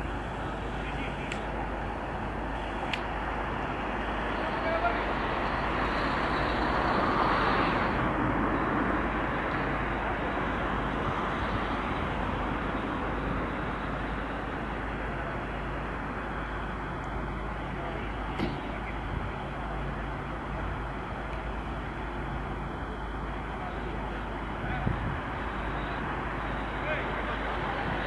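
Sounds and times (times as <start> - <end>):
heavy vehicle engines rumbling: 0.0 - 28.0.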